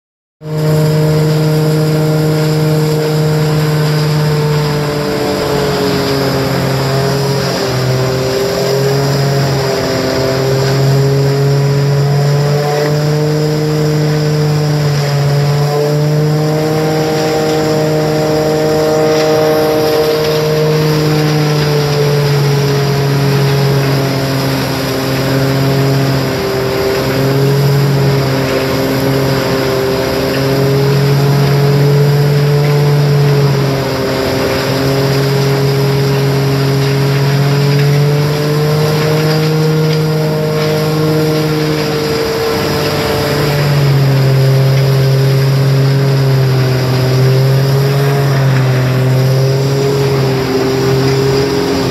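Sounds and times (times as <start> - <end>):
rushing of thrown material: 0.4 - 51.9
tractor machine drone: 0.4 - 51.9.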